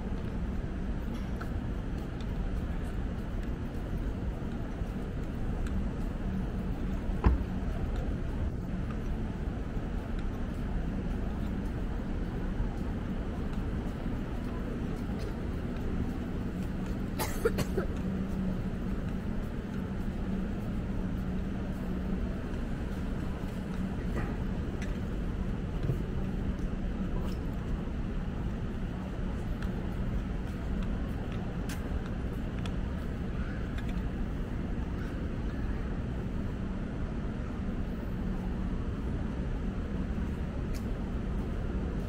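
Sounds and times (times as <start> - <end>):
city ambience rumble: 0.0 - 42.0
constant low hum: 0.0 - 42.0.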